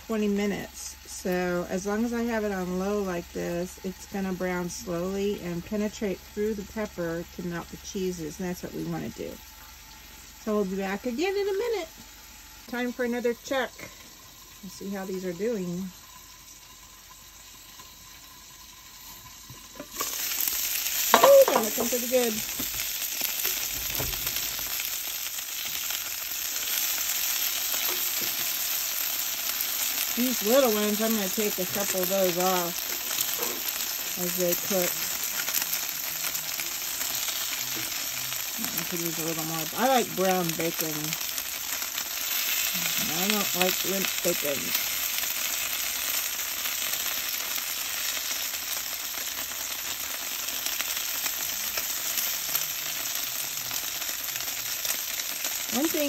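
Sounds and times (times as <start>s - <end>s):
food sizzling on a griddle: 0.0s - 56.0s.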